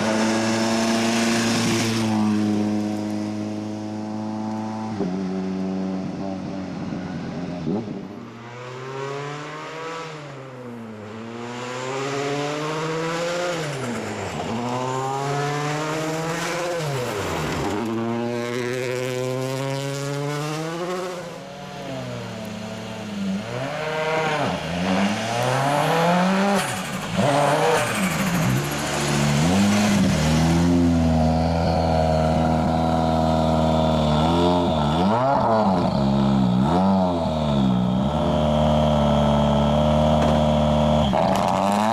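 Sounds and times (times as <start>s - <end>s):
rally car engine revving: 7.4s - 41.9s.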